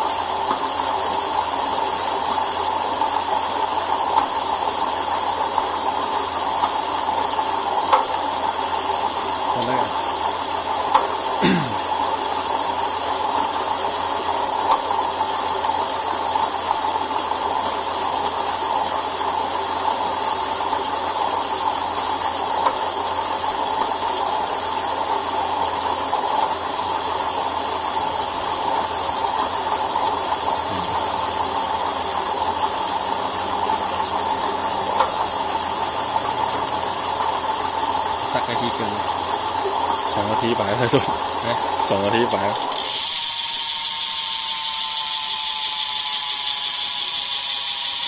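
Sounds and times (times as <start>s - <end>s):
spoked wheel whirring: 0.0s - 48.0s.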